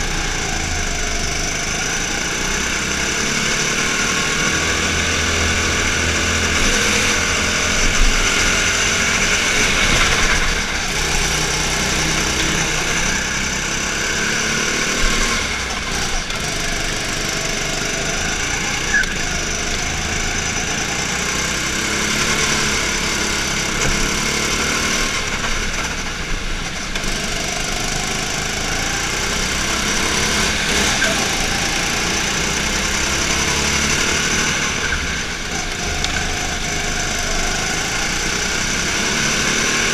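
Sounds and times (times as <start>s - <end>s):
go-kart engine running hard: 0.0s - 39.9s
other kart engines: 0.0s - 39.9s.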